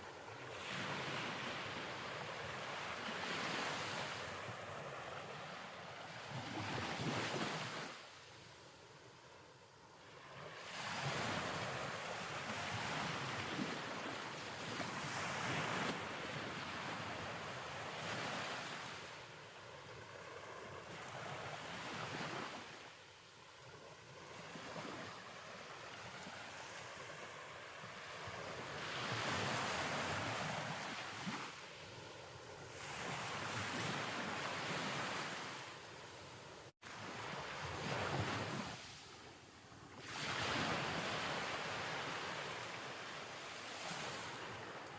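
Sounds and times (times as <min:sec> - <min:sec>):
surf breaking waves: 0:00.0 - 0:44.9.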